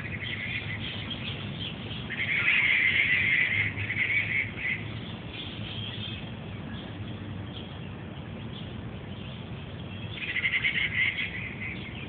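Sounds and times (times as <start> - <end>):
bird chirping: 0.0 - 12.0
low background rumble: 0.0 - 12.0.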